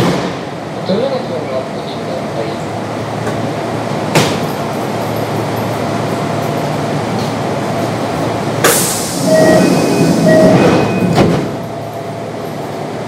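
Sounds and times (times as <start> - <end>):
train equipment humming: 1.5 - 13.0.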